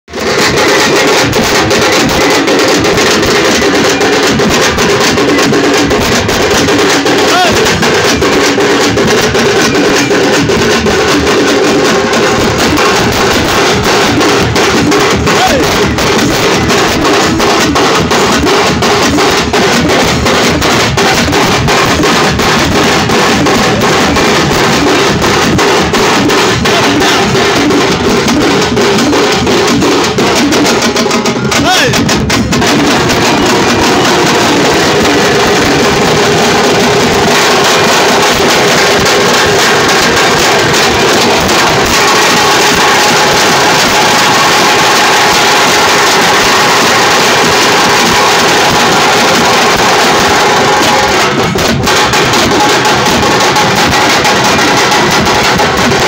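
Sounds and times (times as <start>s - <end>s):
small hand drum beaten rapidly: 0.0s - 56.0s
bass drum struck with a stick: 0.1s - 56.0s.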